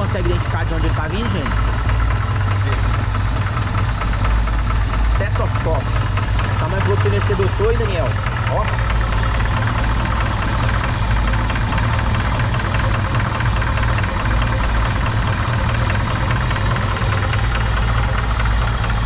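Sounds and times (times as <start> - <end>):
car engine idling: 0.0 - 19.0
rapid knocking inside engine: 0.0 - 19.0.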